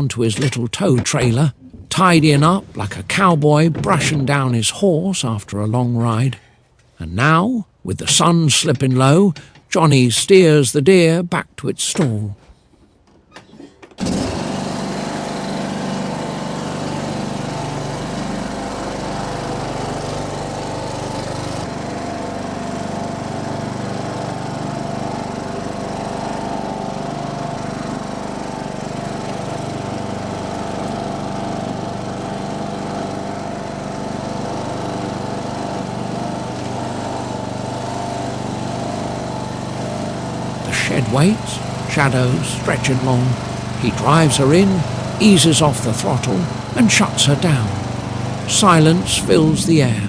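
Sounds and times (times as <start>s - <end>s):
riding lawn tractor engine running: 0.0s - 10.0s, 12.0s - 50.0s.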